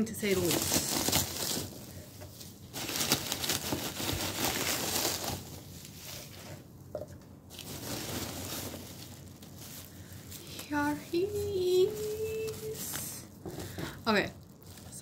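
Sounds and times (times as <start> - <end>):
foam packing peanuts rustling: 0.0 - 6.7, 7.5 - 15.0.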